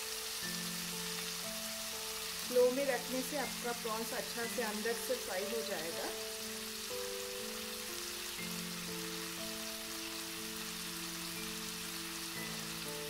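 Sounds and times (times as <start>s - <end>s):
prawns sizzling in hot oil: 0.0s - 13.0s
soft background music: 0.0s - 13.0s.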